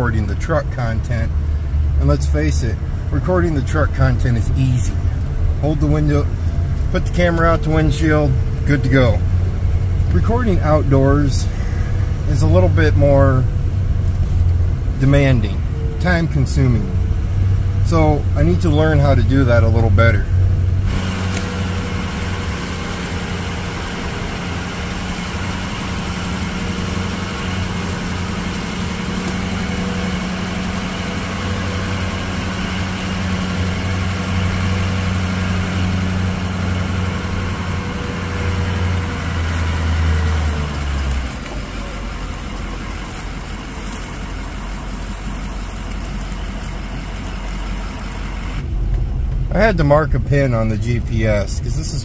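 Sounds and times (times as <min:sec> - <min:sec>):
pickup truck engine running: 0:00.0 - 0:52.0
road noise: 0:00.0 - 0:52.0.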